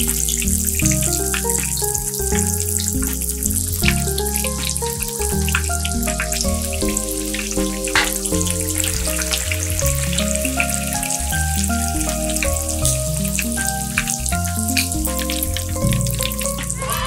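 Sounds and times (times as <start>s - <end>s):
background music with bass: 0.0s - 17.0s
wings deep-frying in oil: 0.0s - 17.0s.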